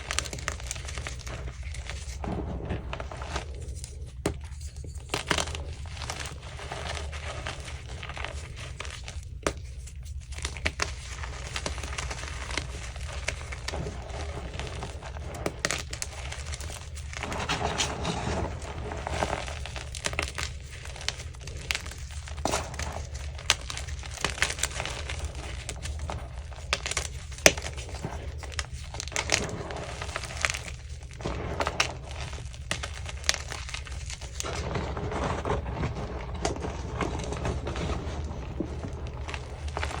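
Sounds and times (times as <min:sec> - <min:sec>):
chalk being crushed: 0:00.0 - 0:40.0.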